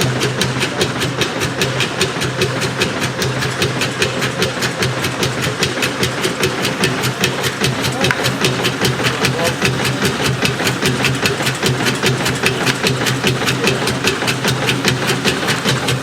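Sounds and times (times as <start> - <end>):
steam traction engine running: 0.0 - 16.0.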